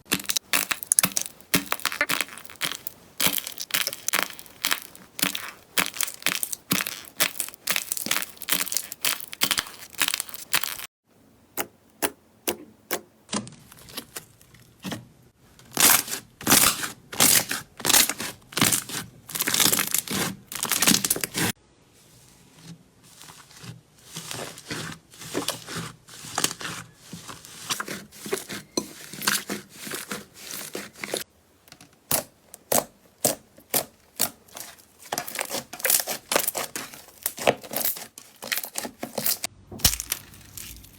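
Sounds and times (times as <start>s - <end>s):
slime crackling and crunching: 0.0s - 10.9s, 15.7s - 21.6s, 23.4s - 31.2s, 32.2s - 40.9s.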